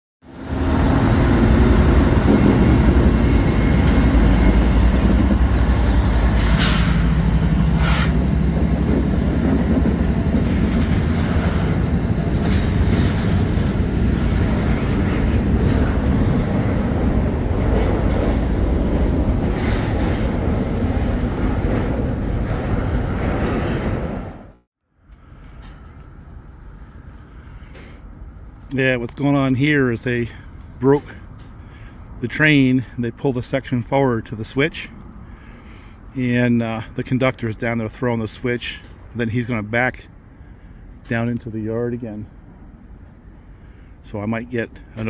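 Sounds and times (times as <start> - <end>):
locomotive engine rumbling: 0.3 - 45.0.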